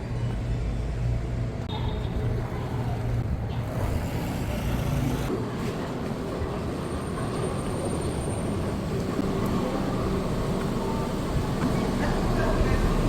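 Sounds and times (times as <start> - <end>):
motor vehicle rumbling: 0.0 - 13.0.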